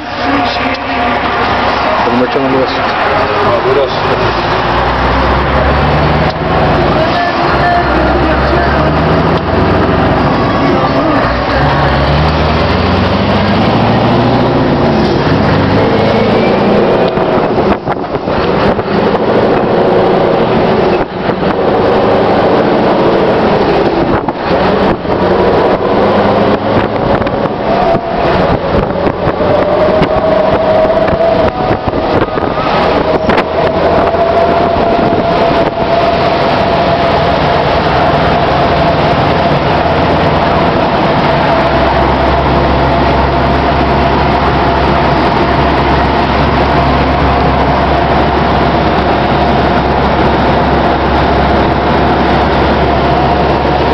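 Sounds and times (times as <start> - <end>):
diesel truck engine running: 0.0 - 53.9
road noise: 0.0 - 53.9
wind on microphone: 4.2 - 53.9.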